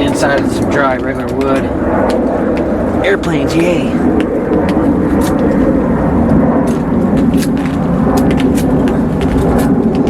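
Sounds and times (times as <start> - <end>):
airplane rumbling overhead: 0.0 - 10.0.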